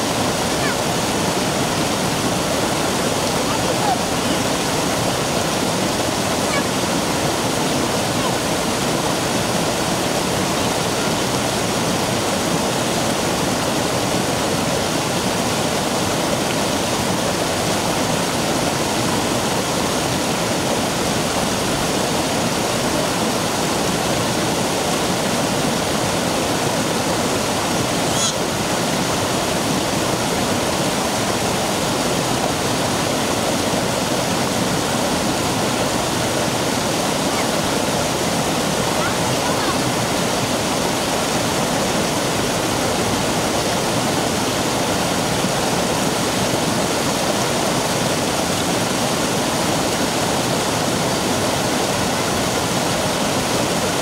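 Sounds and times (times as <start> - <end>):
stream rushing over rock: 0.0 - 54.0.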